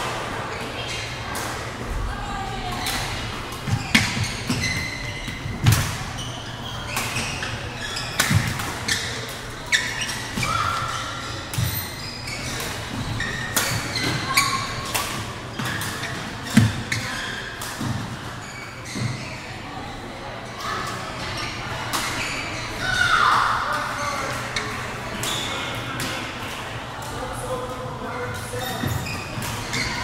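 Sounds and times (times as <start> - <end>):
crowd chatter: 0.0 - 30.0
sneaker squeaks: 0.2 - 1.8, 2.7 - 19.7, 20.6 - 26.2, 28.1 - 30.0.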